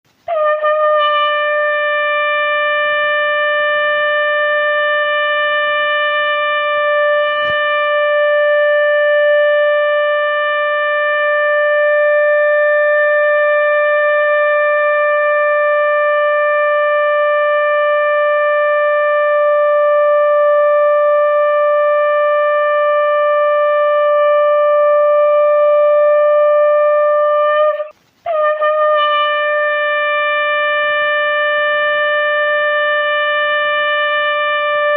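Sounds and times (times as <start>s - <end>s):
conch shell blown: 0.1s - 34.9s.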